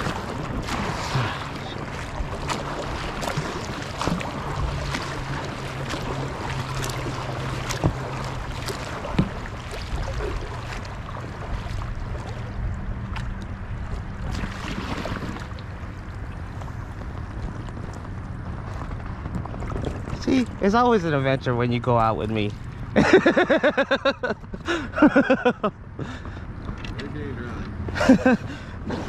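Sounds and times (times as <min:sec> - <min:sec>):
paddles splashing in water: 0:00.0 - 0:27.1, 0:27.8 - 0:29.0.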